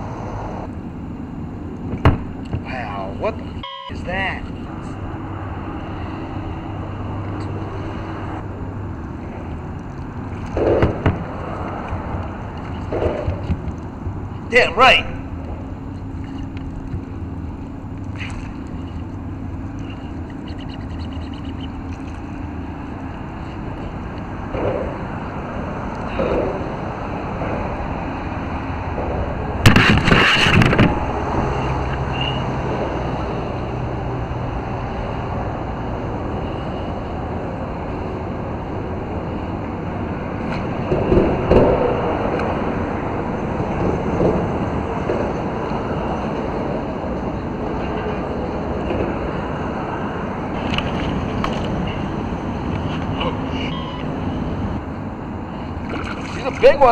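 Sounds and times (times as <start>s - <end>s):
wind and water rumble: 0.0s - 56.9s.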